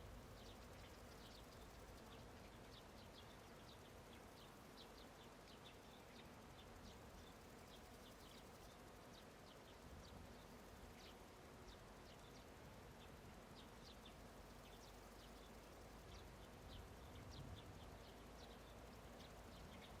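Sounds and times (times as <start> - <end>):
soft low background hiss: 0.0 - 20.0.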